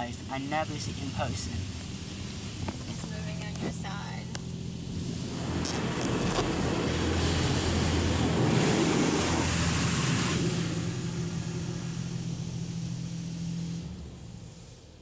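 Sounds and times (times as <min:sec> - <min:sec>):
pump hum: 0:00.0 - 0:15.0
water spray hissing on car: 0:00.0 - 0:15.0.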